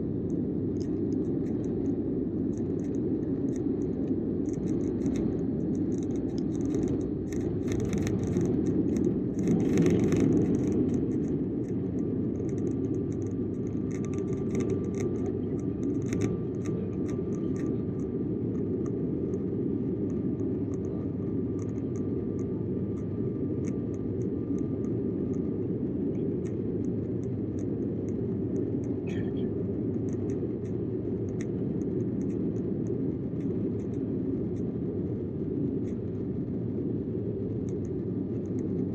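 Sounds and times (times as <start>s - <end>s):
airliner cabin engine noise: 0.0s - 38.9s.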